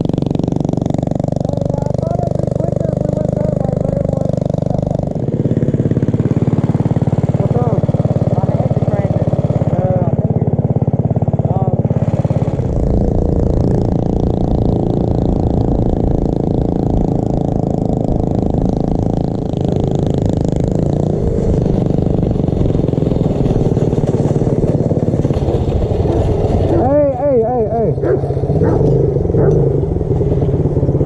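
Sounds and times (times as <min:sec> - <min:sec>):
mini bike engine running: 0:00.0 - 0:31.0.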